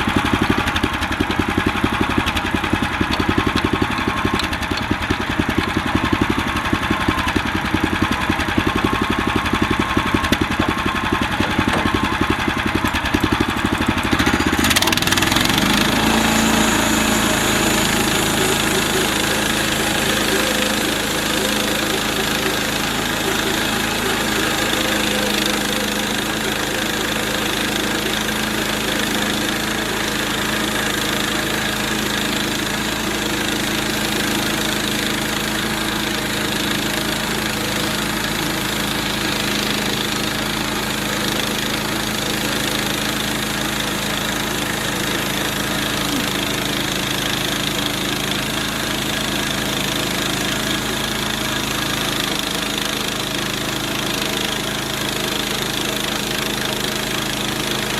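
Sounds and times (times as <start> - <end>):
small gasoline engine running: 0.0 - 57.9
band saw cutting log: 2.4 - 57.9.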